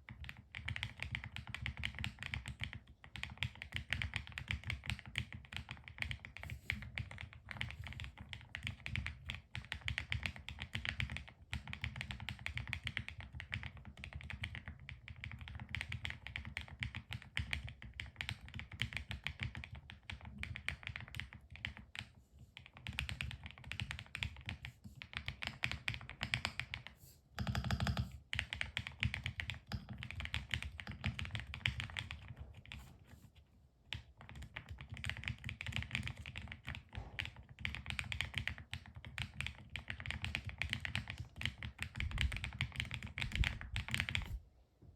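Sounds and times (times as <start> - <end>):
mechanical keyboard typing: 0.0 - 32.8, 33.9 - 44.3.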